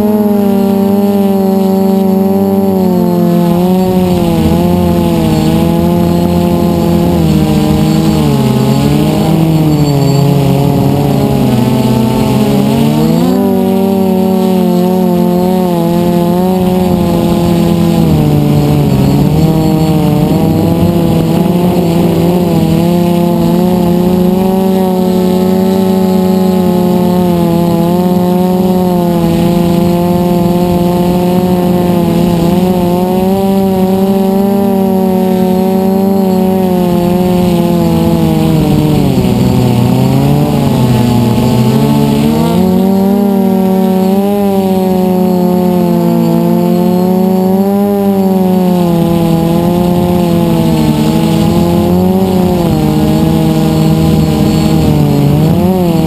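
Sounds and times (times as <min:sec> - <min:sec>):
drone propellers whining: 0:00.0 - 0:56.0.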